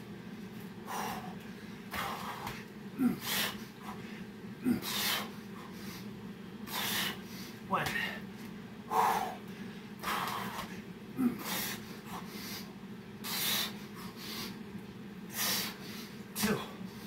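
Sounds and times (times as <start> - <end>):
steady low hum: 0.0 - 17.0
man breathing heavily: 0.7 - 14.6, 15.3 - 17.0.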